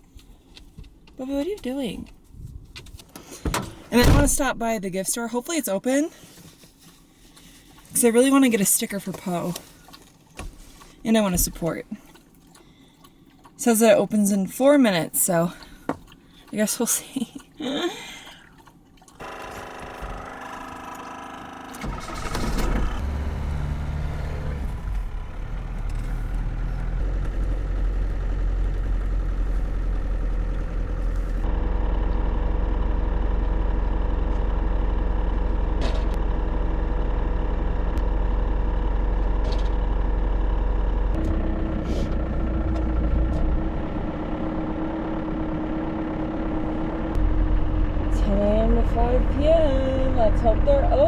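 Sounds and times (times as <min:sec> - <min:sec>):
truck engine rumbling: 0:00.0 - 0:51.0.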